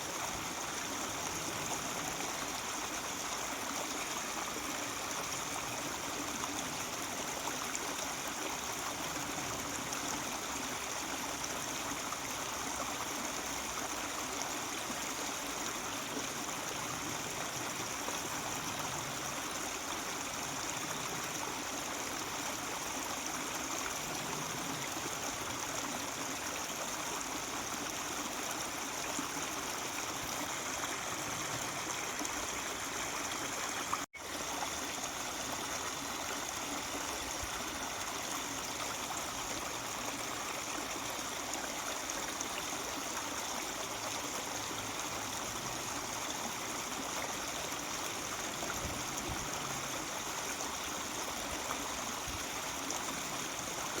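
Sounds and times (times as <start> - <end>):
mountain stream babbling: 0.0 - 54.0.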